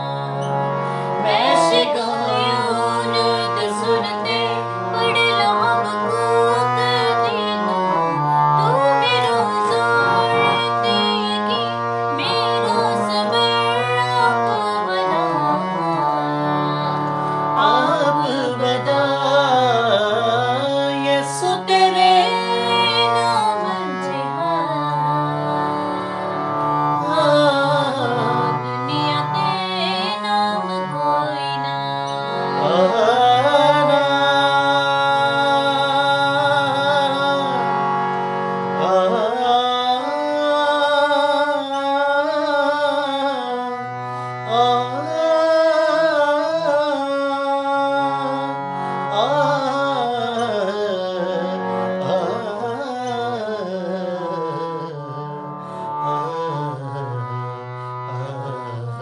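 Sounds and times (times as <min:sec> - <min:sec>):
man and woman singing: 0:00.0 - 0:17.0, 0:17.6 - 0:25.9, 0:26.9 - 0:37.7, 0:38.7 - 0:43.8, 0:44.4 - 0:55.2.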